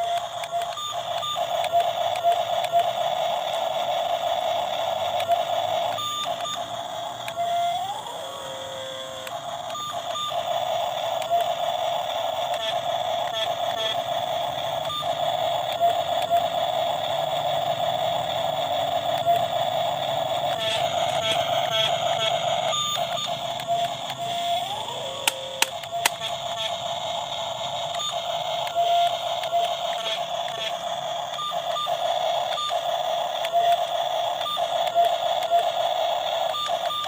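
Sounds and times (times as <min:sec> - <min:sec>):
sharp clicks: 0:00.0 - 0:08.2, 0:09.2 - 0:37.0
electric motor whining: 0:00.0 - 0:37.0.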